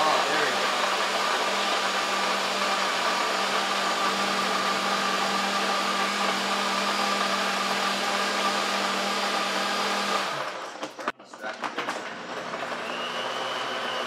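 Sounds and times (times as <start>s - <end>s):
blender running: 0.0s - 11.0s, 11.6s - 14.0s.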